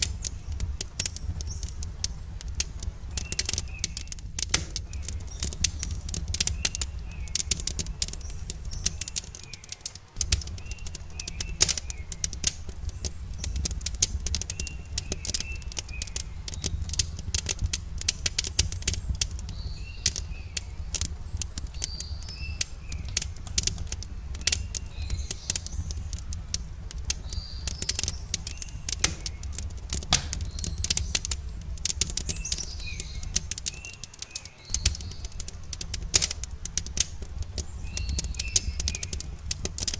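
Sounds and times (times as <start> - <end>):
campfire crackling and popping: 0.0 - 39.9
small birds chirping: 0.0 - 39.9.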